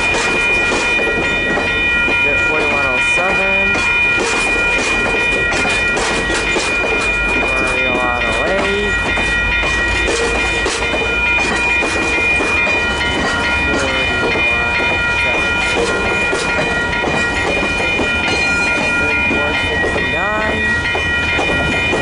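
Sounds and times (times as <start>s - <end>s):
train wheels clacking over rail joints: 0.0s - 2.8s, 3.6s - 22.0s
high-pitched ringing tones: 0.0s - 22.0s.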